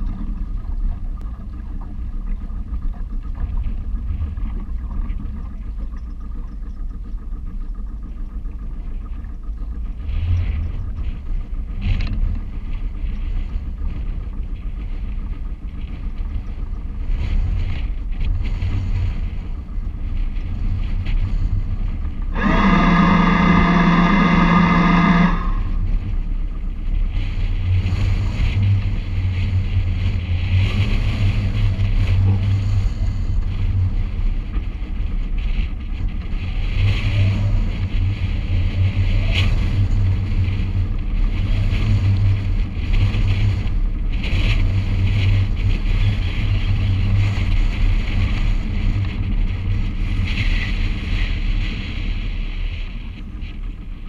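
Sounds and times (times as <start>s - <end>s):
electric bow thruster whining: 0.0s - 54.0s
steady low rumble: 0.0s - 54.0s
wind buffeting microphone: 0.0s - 54.0s.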